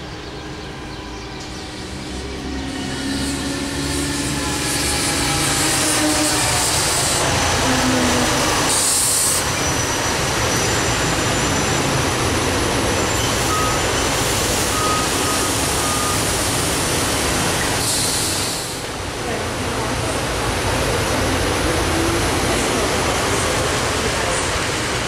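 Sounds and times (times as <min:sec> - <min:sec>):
train wheels rushing on rail: 0:00.0 - 0:25.0.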